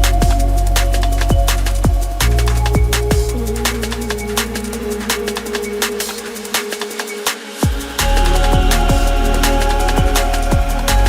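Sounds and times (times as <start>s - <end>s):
drum and bass music: 0.0s - 11.0s.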